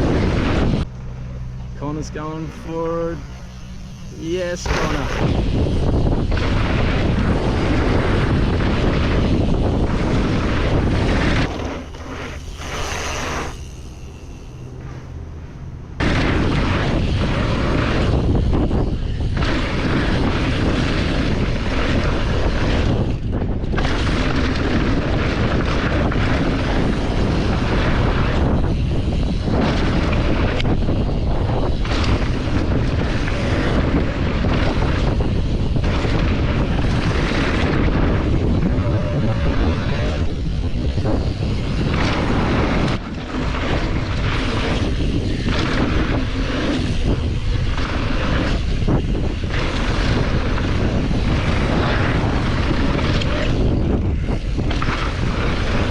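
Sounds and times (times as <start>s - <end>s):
wind buffeting microphone: 0.0s - 14.4s, 15.1s - 55.9s.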